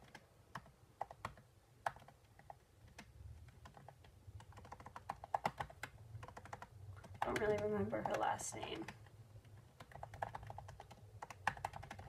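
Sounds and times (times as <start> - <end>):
computer keyboard typing: 0.0 - 12.0.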